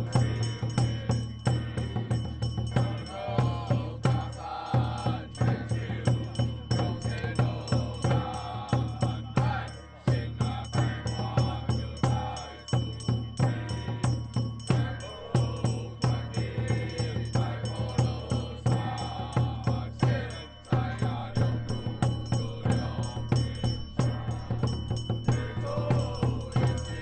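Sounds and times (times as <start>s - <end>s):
chanting: 0.0s - 27.0s
drum beat: 0.0s - 27.0s
rattling hand percussion: 0.0s - 27.0s.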